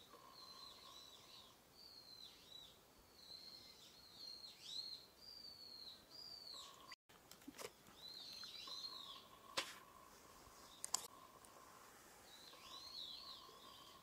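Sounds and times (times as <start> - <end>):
songbird singing: 0.0 - 7.0, 7.7 - 14.0.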